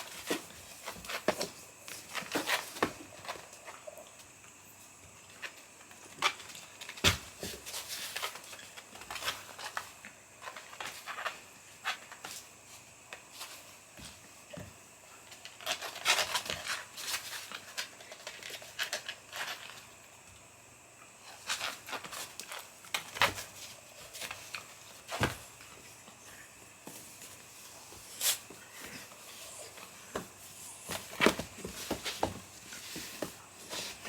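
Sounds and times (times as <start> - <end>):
kitten paws tapping and scrabbling: 0.0 - 20.3, 21.3 - 34.0.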